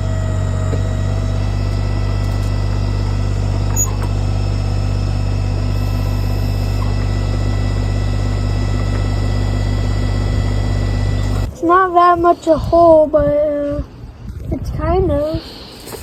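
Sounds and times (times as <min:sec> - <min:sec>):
tractor diesel engine running: 0:00.0 - 0:13.5.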